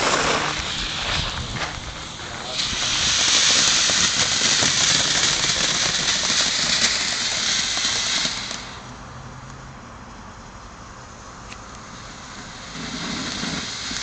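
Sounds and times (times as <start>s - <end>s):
firework crackles: 0.0s - 9.0s, 10.7s - 14.0s
firework fountain hissing: 0.0s - 9.0s, 9.8s - 14.0s.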